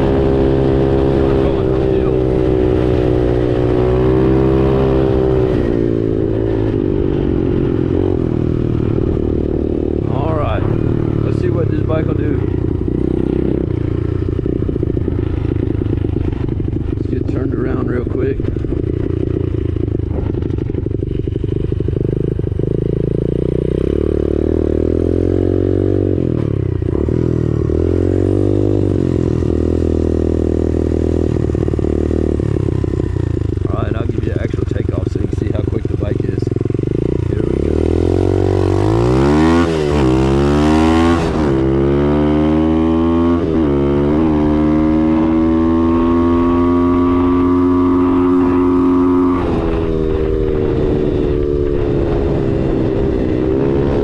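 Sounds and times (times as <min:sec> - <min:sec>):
motorbike engine at high revs: 0:00.0 - 0:54.0.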